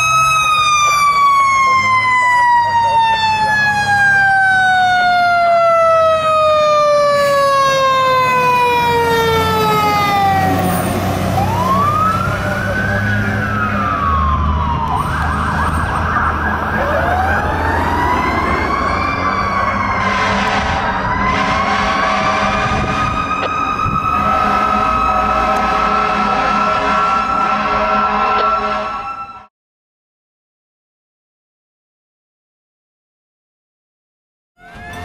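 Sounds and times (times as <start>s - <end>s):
truck engine rumble: 0.0s - 29.0s
fire engine siren wailing: 0.0s - 29.5s, 34.6s - 35.0s.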